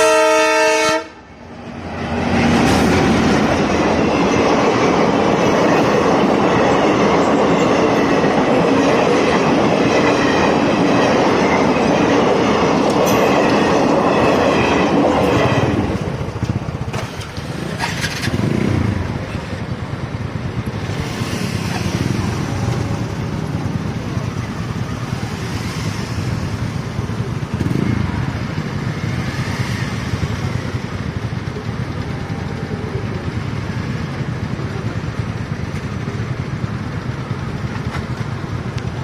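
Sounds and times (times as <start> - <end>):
train rumbling with hiss: 0.0 - 39.0.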